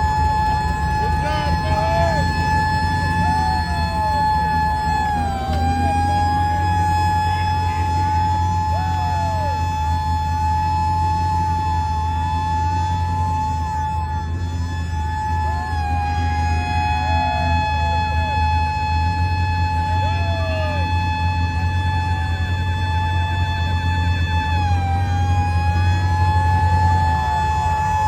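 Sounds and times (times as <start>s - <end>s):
fire truck horns: 0.0s - 28.0s
low engine rumble: 0.0s - 28.0s
sirens wailing: 0.0s - 28.0s
steady high siren tone: 0.0s - 28.0s.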